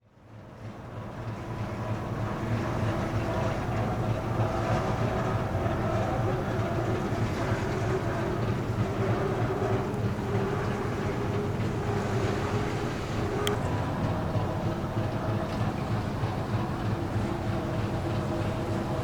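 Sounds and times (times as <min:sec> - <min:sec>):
ship engines droning: 0:00.5 - 0:19.0.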